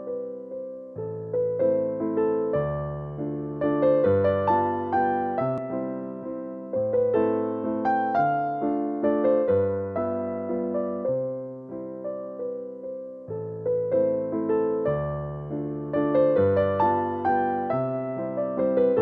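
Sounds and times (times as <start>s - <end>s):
piano chords ringing: 0.0s - 19.0s.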